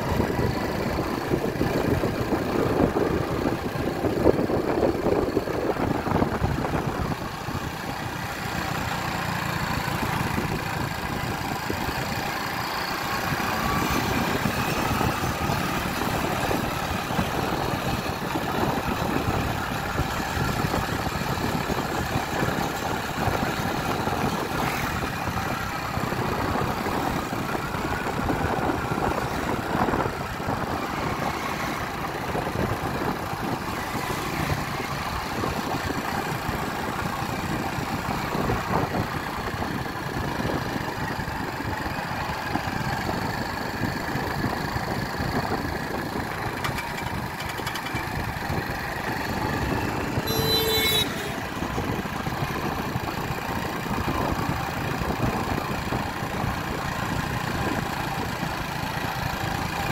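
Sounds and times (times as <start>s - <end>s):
motorcycle engine running: 0.0s - 59.9s
road and air noise: 0.0s - 59.9s.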